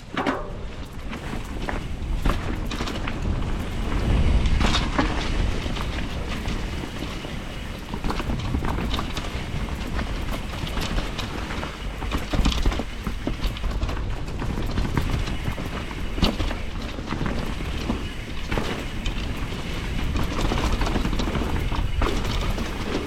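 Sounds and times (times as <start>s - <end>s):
mountain bike clattering on trail: 0.0s - 23.0s.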